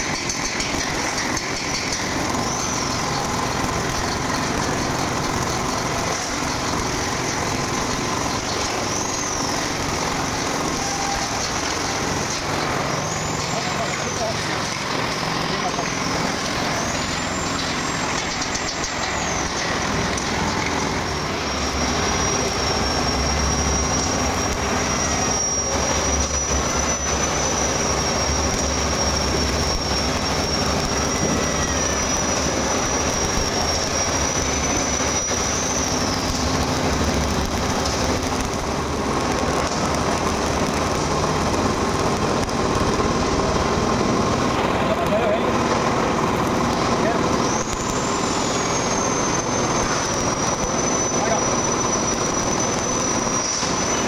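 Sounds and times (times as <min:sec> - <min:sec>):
welding arc crackling and hissing: 0:00.0 - 0:54.0.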